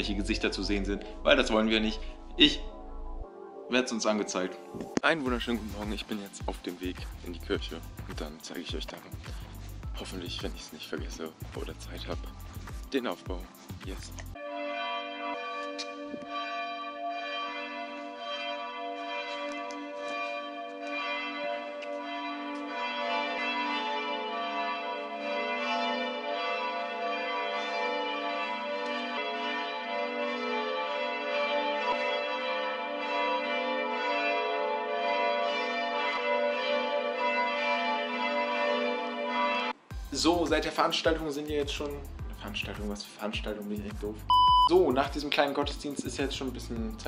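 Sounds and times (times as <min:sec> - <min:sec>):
church bells pealing: 0:00.0 - 0:43.8, 0:44.9 - 0:47.0.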